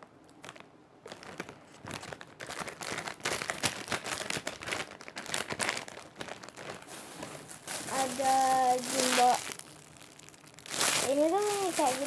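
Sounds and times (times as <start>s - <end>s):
plastic packaging crinkling: 0.3s - 12.0s.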